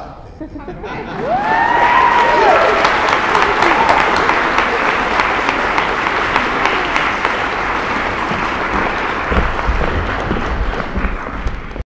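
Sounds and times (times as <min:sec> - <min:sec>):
audience applauding: 0:01.0 - 0:11.8.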